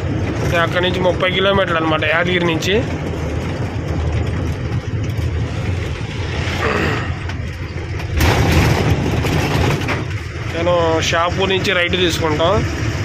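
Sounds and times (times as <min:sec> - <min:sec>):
rush of noise: 0:00.0 - 0:13.0
truck diesel engine running: 0:00.0 - 0:13.0.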